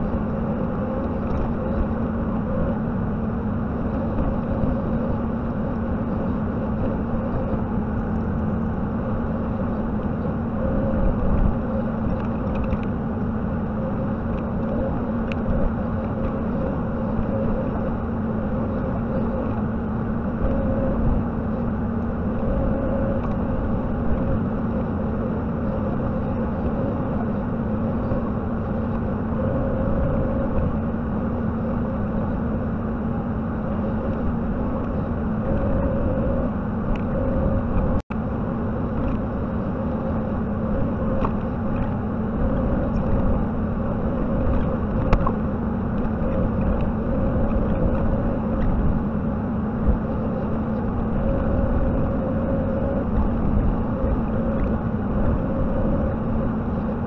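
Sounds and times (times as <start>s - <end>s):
diesel engine running: 0.0s - 57.0s
hydraulic whine: 0.0s - 57.0s.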